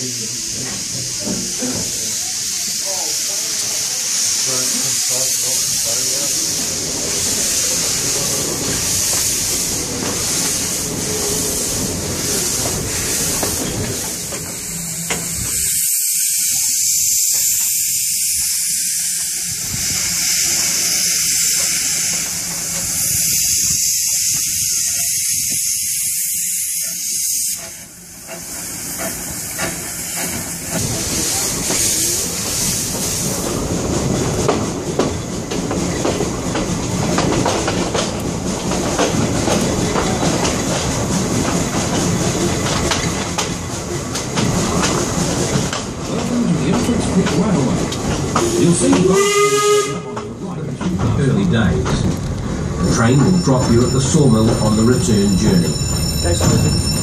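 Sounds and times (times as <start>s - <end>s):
steam hissing: 0.0s - 46.6s, 47.5s - 50.1s
train wheels clacking on rails: 0.5s - 57.0s.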